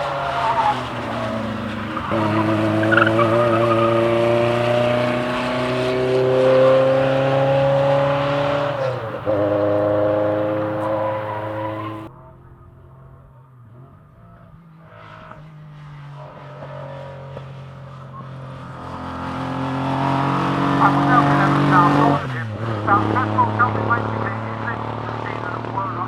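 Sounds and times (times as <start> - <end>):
rally car engine pulling hard: 0.0 - 12.1, 13.6 - 26.0.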